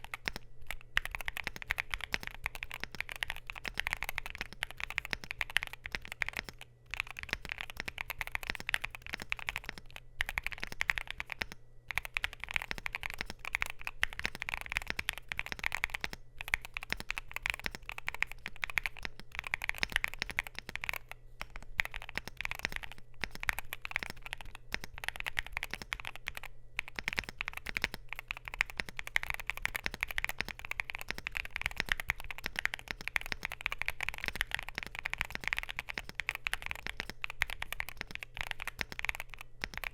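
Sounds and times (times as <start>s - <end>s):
mechanical keyboard key clacks: 1.0s - 39.9s.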